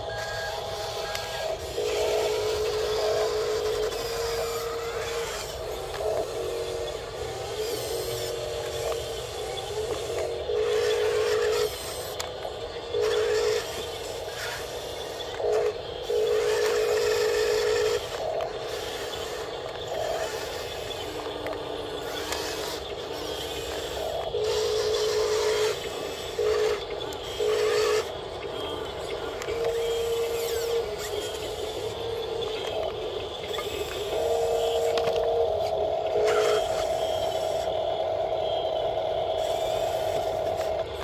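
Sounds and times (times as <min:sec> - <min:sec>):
small electric motors whining: 0:00.0 - 0:41.0.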